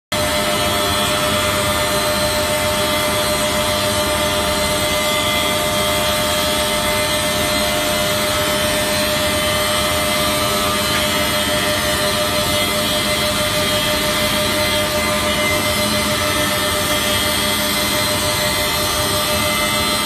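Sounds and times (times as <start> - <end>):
rip saw running: 0.2 - 20.0.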